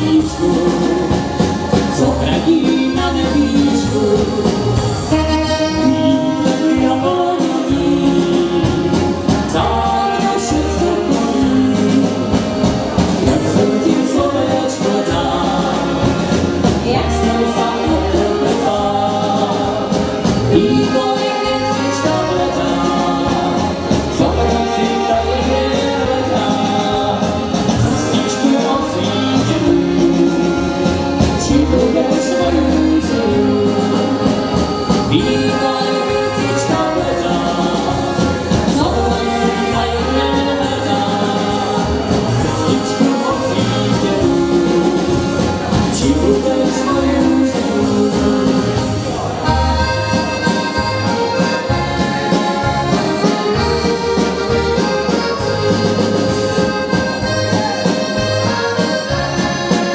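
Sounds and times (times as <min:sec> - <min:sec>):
accordion: 0:00.0 - 0:59.9
drums: 0:00.0 - 0:59.9
group of voices singing: 0:00.0 - 0:59.9
saxophone: 0:00.0 - 0:59.9.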